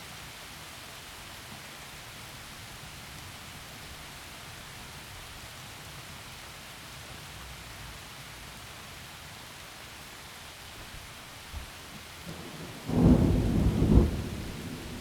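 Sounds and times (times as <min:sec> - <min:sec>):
heavy rain in forest: 0:00.0 - 0:15.0.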